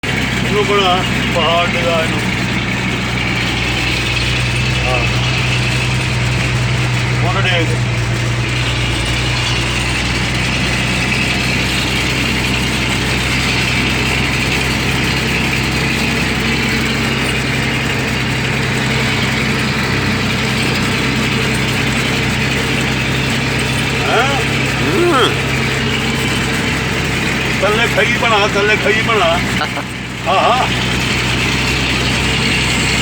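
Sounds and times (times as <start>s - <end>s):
truck engine droning: 0.0s - 33.0s.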